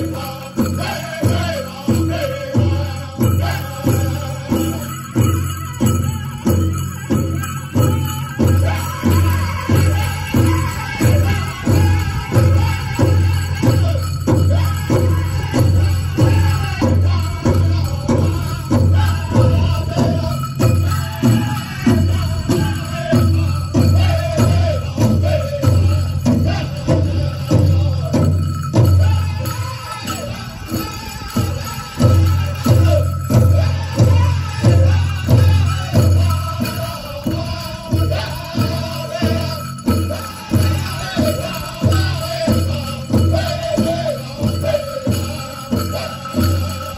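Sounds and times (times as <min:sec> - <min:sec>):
big drum beating: 0:00.0 - 0:46.8
bells jingling: 0:00.0 - 0:46.9
group of singers: 0:00.0 - 0:46.9.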